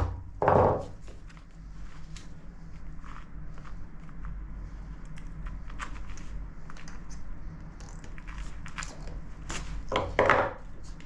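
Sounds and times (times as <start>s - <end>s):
steady low hum: 0.0s - 11.0s
needle and twine clicks and rustles: 1.0s - 11.0s.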